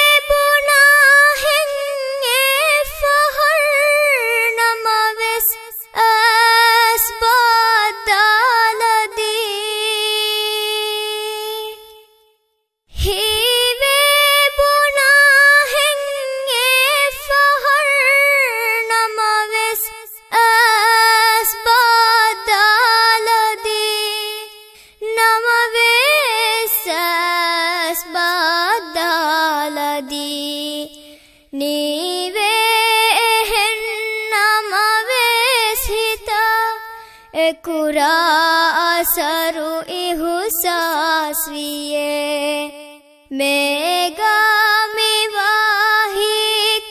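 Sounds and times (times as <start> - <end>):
girl singing unaccompanied: 0.0 - 12.1, 13.0 - 46.9.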